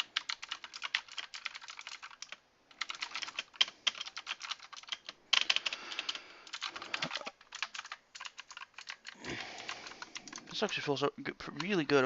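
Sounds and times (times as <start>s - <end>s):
clicky mechanical keyboard typing: 0.0s - 10.9s, 11.5s - 11.8s.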